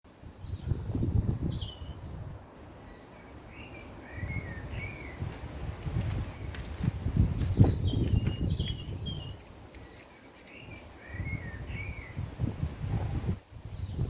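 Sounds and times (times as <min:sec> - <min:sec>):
wild birds chirping: 0:00.1 - 0:14.0.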